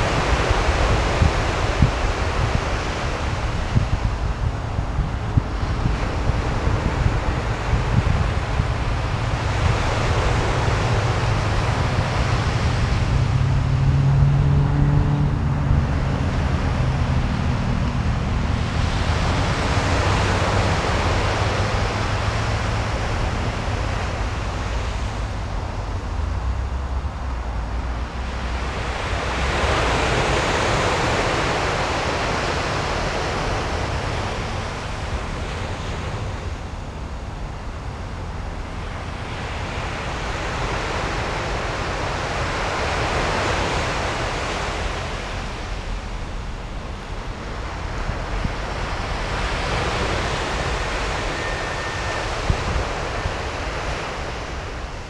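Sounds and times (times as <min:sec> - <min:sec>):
sea surf washing ashore: 0:00.0 - 0:55.0.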